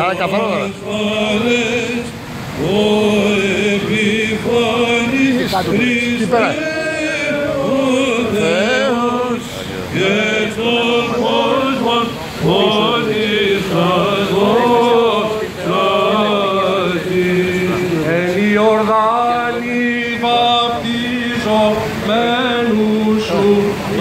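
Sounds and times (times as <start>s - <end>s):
priest chanting into a microphone: 0.0s - 24.0s.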